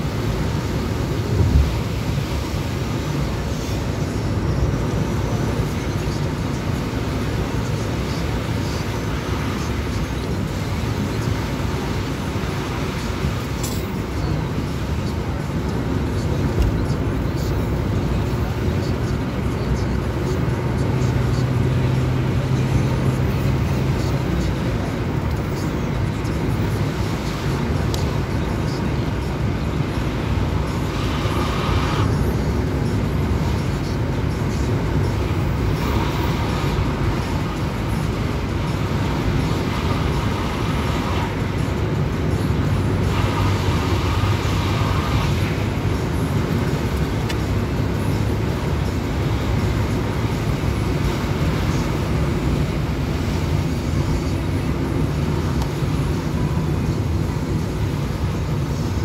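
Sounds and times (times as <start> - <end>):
car cabin road and engine noise: 0.0 - 59.0.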